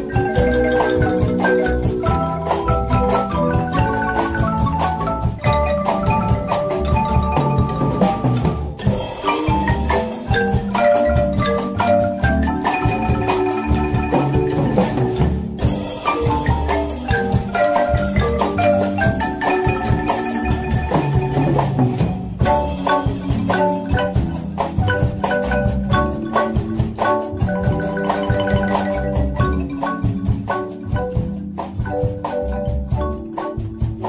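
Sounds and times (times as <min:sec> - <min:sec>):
marimba ensemble playing: 0:00.0 - 0:34.0.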